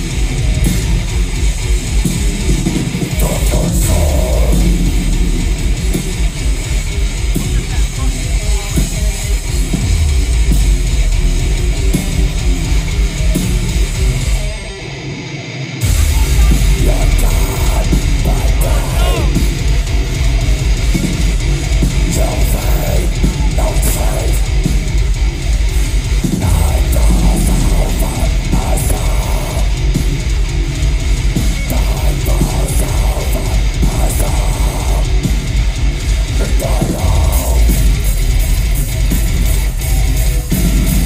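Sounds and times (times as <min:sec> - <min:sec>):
distorted electric guitars: 0:00.0 - 0:41.0
drum kit: 0:00.0 - 0:41.0
vocals: 0:00.0 - 0:41.0.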